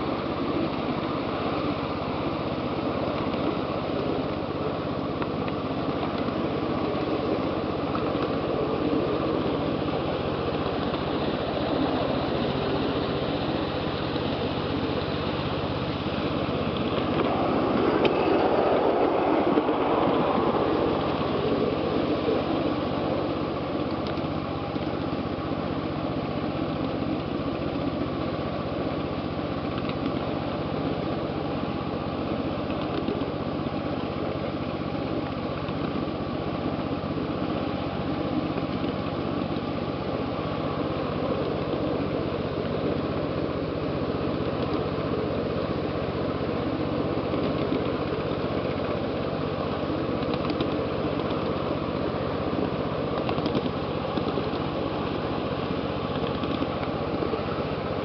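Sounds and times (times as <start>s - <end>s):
steady engine drone: 0.0s - 58.0s
train cars rumbling on rails: 0.0s - 58.0s.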